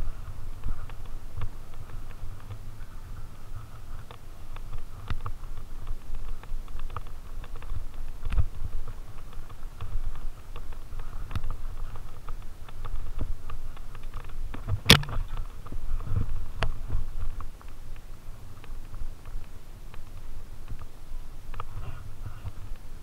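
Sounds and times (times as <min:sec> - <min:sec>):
bike tyres rumbling on dirt: 0:00.0 - 0:23.0.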